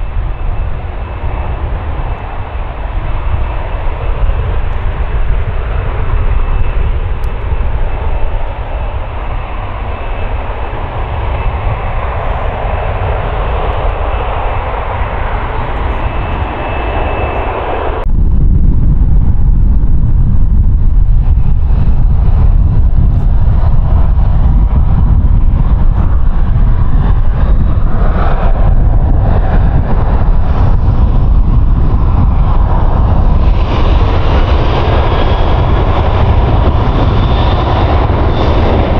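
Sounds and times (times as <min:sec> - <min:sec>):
deep jet rumble: 0:00.0 - 0:38.9
jet engines roaring with fan whine: 0:00.0 - 0:38.9.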